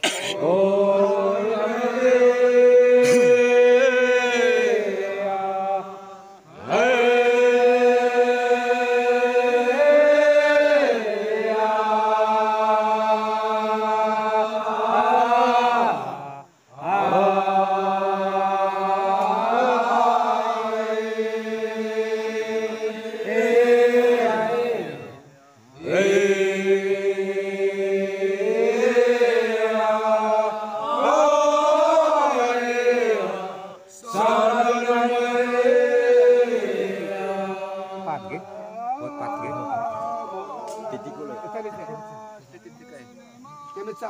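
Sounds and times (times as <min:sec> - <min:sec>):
men singing a ritual chant: 0:00.0 - 0:44.0.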